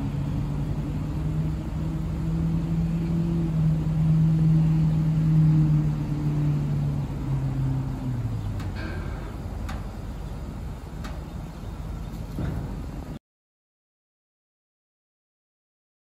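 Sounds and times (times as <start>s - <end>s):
truck engine running: 0.0s - 13.2s.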